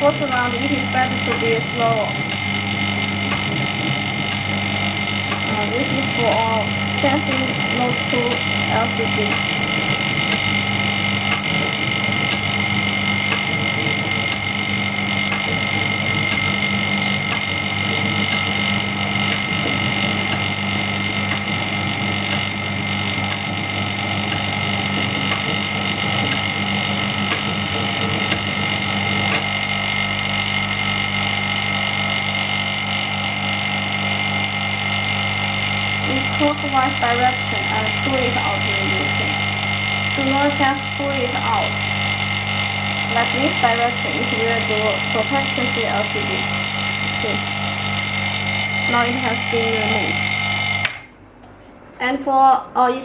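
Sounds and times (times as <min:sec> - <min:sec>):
vacuum pump humming: 0:00.0 - 0:52.1.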